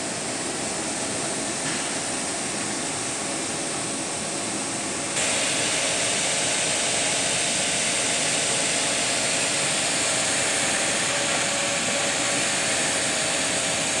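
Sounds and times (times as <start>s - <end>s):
printer fans and carriage hissing: 0.0s - 14.0s.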